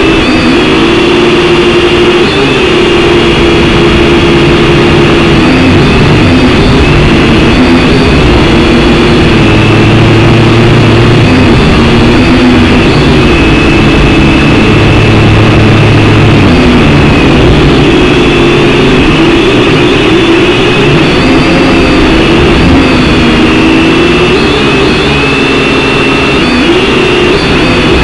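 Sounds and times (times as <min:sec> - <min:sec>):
quadcopter buzzing whine: 0:00.0 - 0:28.0.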